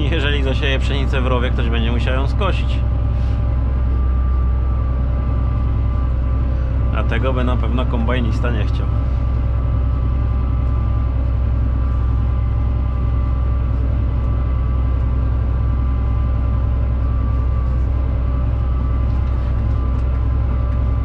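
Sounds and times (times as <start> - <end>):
steady whine: 0.0 - 21.0
tractor engine drone: 0.0 - 21.0.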